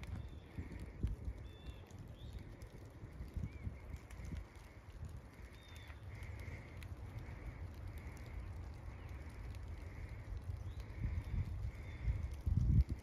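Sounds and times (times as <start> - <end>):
rain pattering on dry leaves: 0.0 - 13.0
distant bird calling: 0.1 - 12.2.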